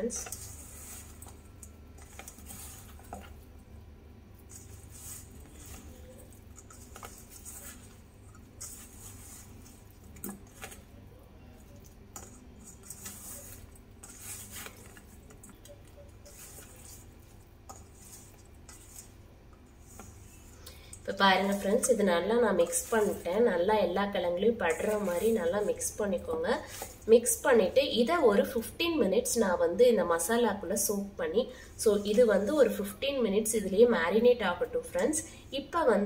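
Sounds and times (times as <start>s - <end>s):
potatoes shuffling in a bowl: 0.0s - 36.0s.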